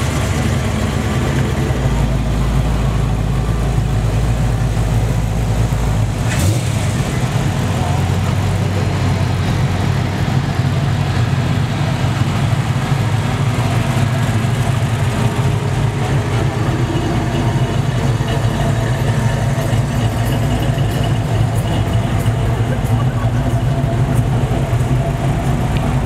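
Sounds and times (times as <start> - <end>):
car engines idling: 0.0 - 26.0.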